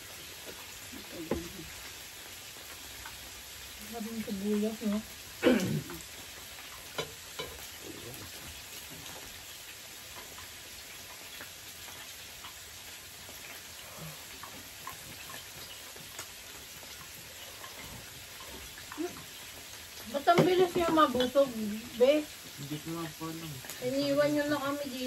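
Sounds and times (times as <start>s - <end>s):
meat sizzling on a grill: 0.0s - 25.0s.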